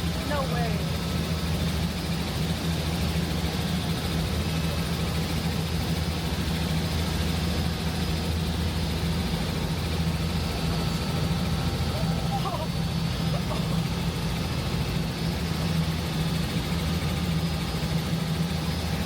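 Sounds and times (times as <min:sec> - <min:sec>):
helicopter cabin drone: 0:00.0 - 0:19.0.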